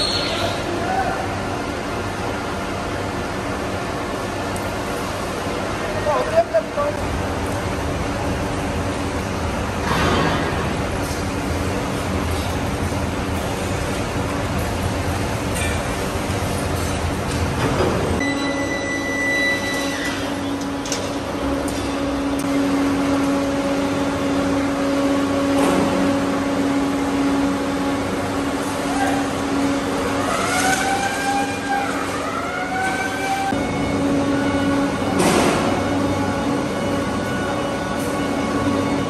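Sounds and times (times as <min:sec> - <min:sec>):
machinery rumble: 0:00.0 - 0:39.0
steady hum: 0:00.0 - 0:39.0.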